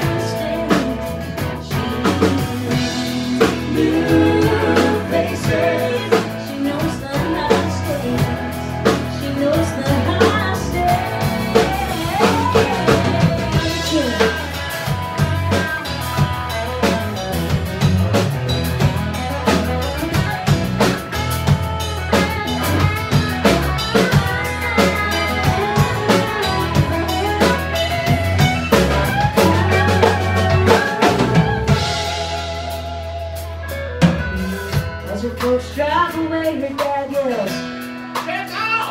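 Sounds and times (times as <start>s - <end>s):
live country pop band: 0.0s - 38.9s.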